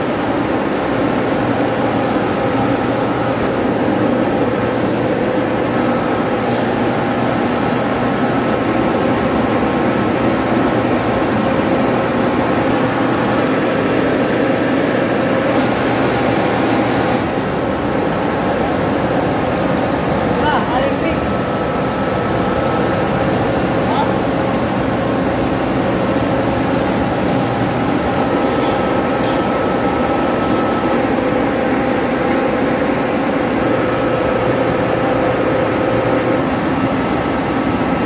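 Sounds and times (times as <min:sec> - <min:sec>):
machinery droning: 0:00.0 - 0:38.0.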